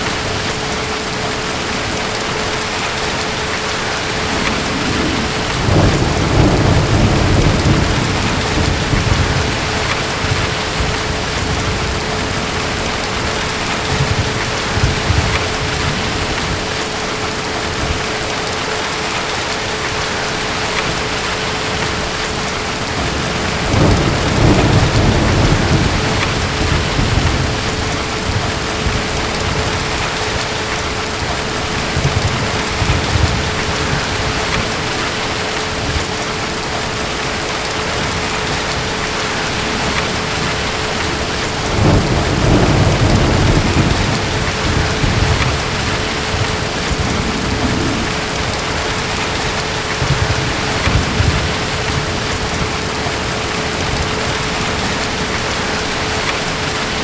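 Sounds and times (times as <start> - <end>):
heavy rain: 0.0 - 57.0
distant thunder rolling: 2.8 - 18.1, 20.0 - 36.2, 37.8 - 57.0.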